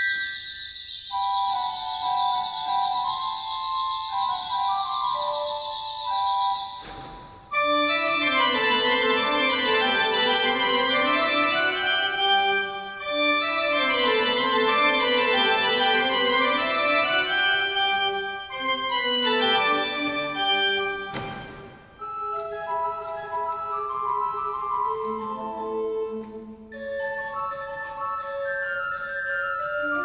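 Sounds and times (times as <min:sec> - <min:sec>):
pipe organ playing: 0:00.0 - 0:30.0.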